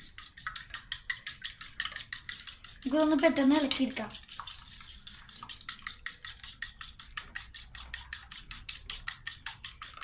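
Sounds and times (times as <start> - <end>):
whisk beating eggs in metal bowl: 0.0 - 10.0.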